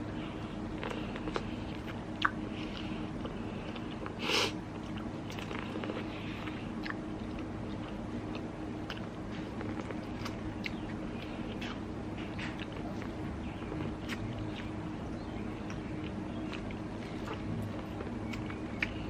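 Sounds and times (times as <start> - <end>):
steady low hum: 0.0 - 19.0
chewing and mouth smacks: 0.4 - 19.0.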